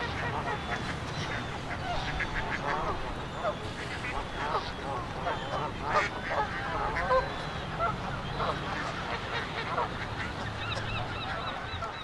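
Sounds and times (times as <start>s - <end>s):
geese and ducks honking and quacking: 0.0s - 12.0s.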